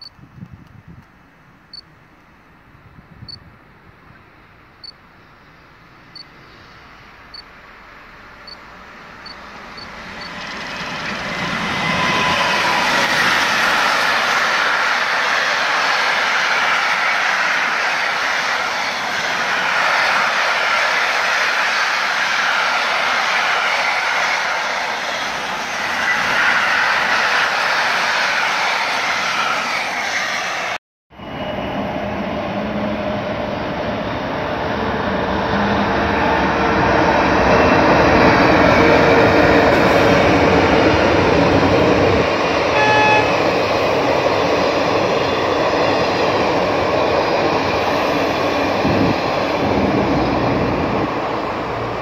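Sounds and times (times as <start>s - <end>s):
freight train rolling on rails: 4.2s - 52.0s.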